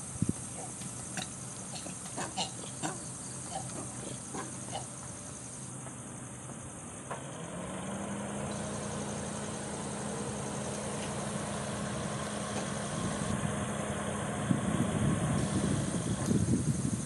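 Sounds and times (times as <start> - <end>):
insects buzzing: 0.0 - 17.0
vehicle engine hum: 0.0 - 17.0.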